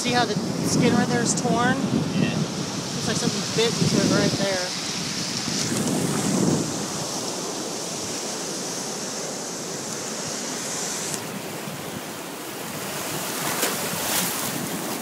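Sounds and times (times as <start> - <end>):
surf washing over sand: 0.0 - 15.0.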